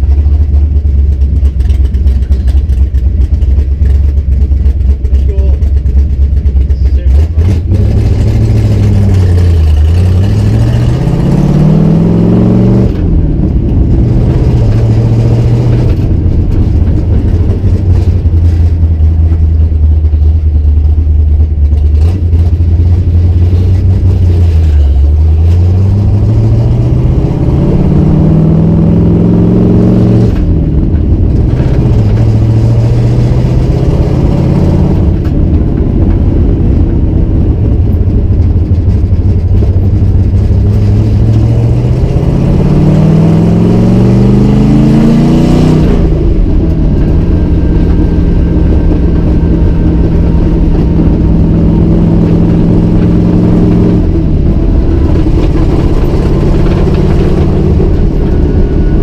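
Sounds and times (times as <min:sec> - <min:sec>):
car engine revving while driving: 0:05.8 - 0:59.0.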